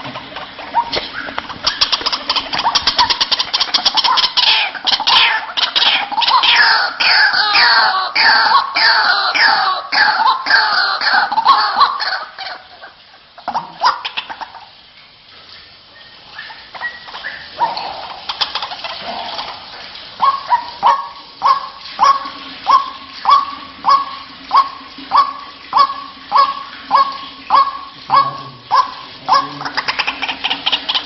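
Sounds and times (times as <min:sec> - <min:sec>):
waterhen calls: 0:00.0 - 0:31.0.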